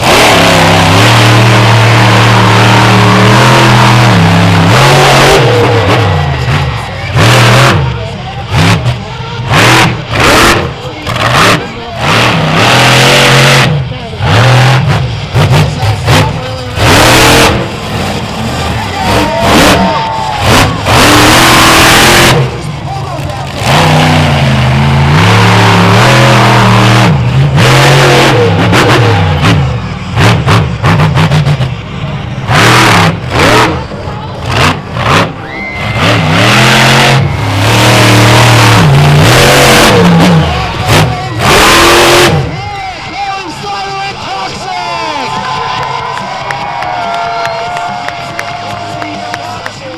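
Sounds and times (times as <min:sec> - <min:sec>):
truck engine revving hard: 0:00.0 - 0:49.9.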